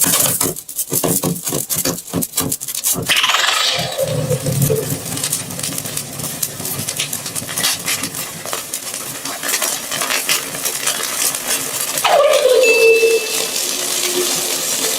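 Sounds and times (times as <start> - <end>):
hot metal sizzling and crackling: 0.0 - 14.9.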